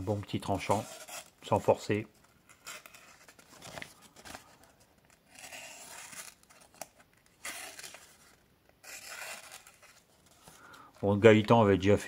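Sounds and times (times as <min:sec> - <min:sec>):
paper crinkling: 0:00.6 - 0:11.2.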